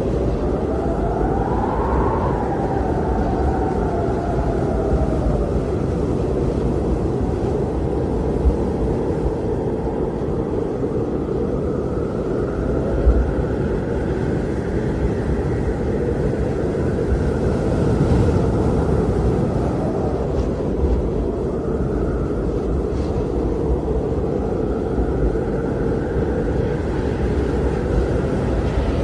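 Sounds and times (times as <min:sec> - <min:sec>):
blizzard wind howling: 0:00.0 - 0:29.0
strong wind gust: 0:00.0 - 0:29.0.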